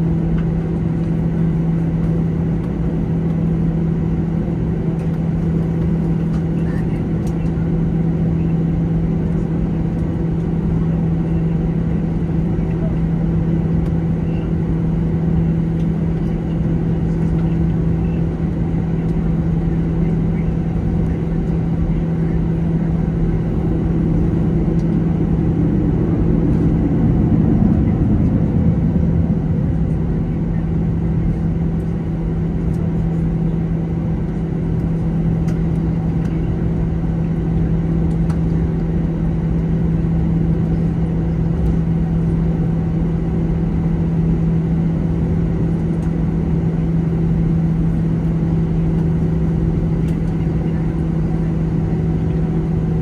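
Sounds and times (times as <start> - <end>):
airliner cabin drone: 0.0 - 53.0.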